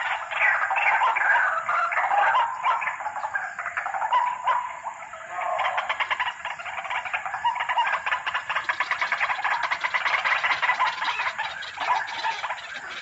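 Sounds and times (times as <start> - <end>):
bird croaking calls: 0.0 - 13.0.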